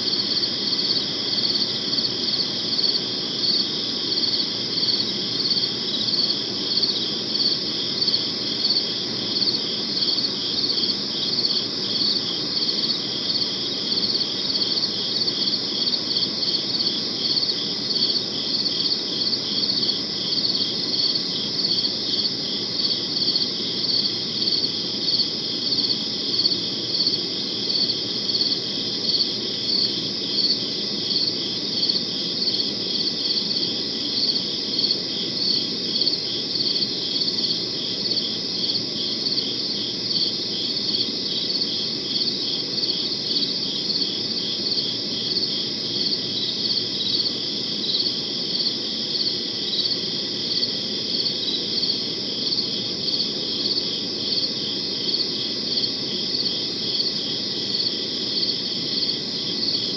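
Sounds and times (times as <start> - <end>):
crickets chirping: 0.0 - 59.9
low night ambience hum: 0.0 - 59.9.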